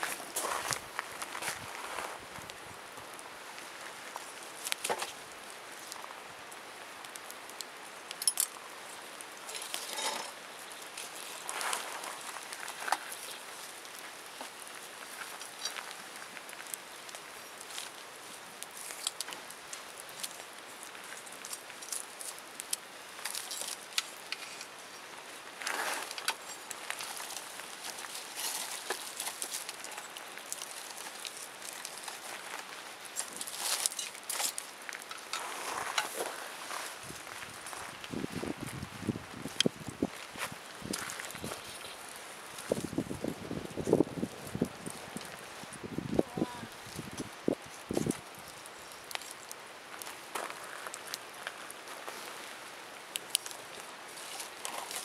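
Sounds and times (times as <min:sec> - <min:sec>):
campfire crackling and popping: 0:00.0 - 0:55.0
fire hissing: 0:00.0 - 0:55.0.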